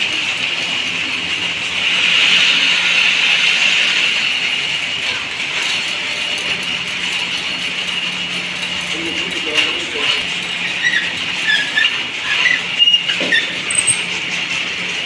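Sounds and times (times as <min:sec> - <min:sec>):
workshop machinery running: 0:00.0 - 0:15.0.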